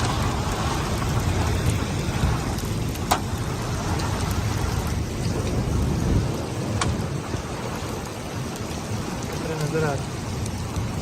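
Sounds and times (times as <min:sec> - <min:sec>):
heavy rain pouring: 0:00.0 - 0:11.0
low rumble: 0:00.0 - 0:11.0.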